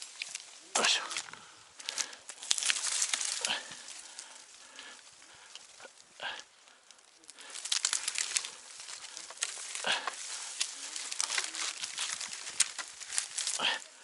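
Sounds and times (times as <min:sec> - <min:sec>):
dry leaves and twigs crackling: 0:00.0 - 0:14.0.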